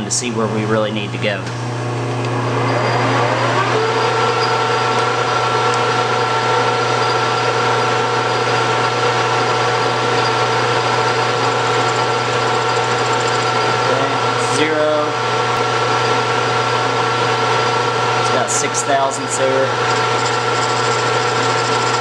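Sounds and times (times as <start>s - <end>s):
lathe whine and hum: 0.0s - 22.0s
boring bar cutting metal: 2.6s - 22.0s.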